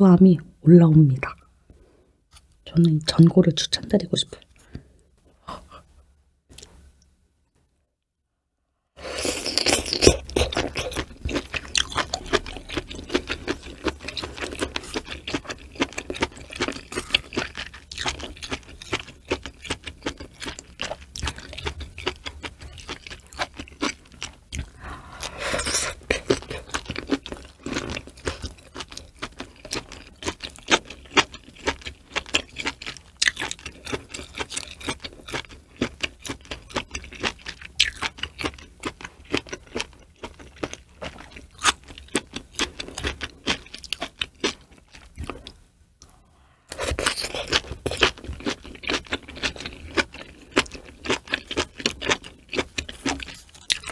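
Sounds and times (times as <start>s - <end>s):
close chewing: 9.1s - 45.6s, 46.7s - 53.9s.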